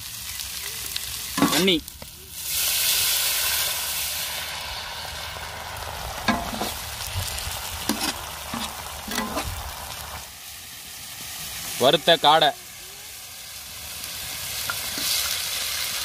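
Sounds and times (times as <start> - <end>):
sizzling and bubbling: 0.0 - 16.0
water hissing in hot oil: 0.0 - 16.0.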